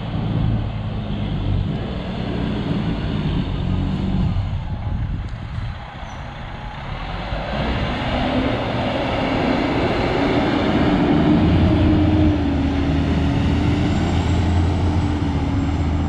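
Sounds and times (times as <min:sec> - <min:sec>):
road noise: 0:00.0 - 0:16.0
vehicle engine drone: 0:00.0 - 0:16.0.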